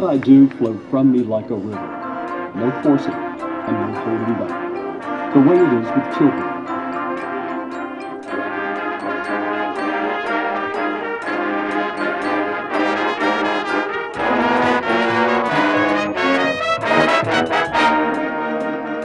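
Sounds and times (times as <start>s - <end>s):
marching band with brass: 0.0s - 19.0s.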